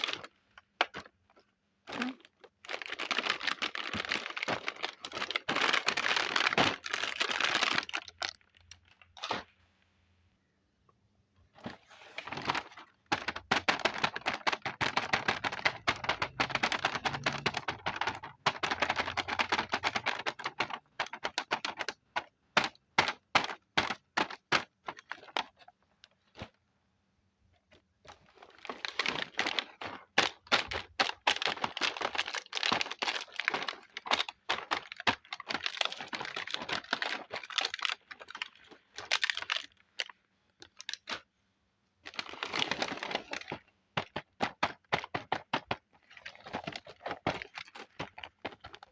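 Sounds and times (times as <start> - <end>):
plastic toy pieces clicking and rattling: 2.0 - 8.8, 12.5 - 25.6, 28.5 - 41.2, 42.1 - 48.9.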